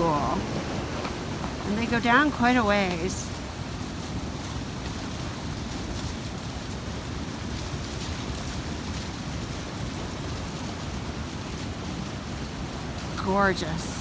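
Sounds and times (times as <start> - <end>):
waterfall rushing over rocks: 0.0 - 14.0.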